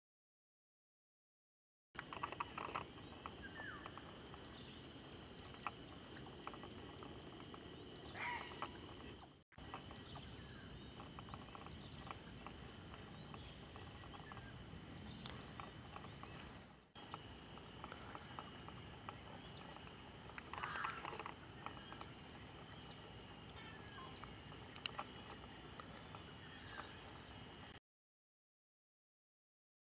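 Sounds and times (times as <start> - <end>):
steady high hum: 2.0 - 27.8.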